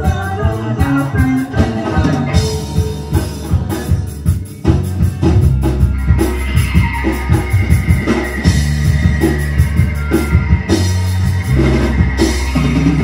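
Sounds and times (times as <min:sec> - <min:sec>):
drum kit beat: 0:00.0 - 0:13.0
rock band playing: 0:00.0 - 0:13.0.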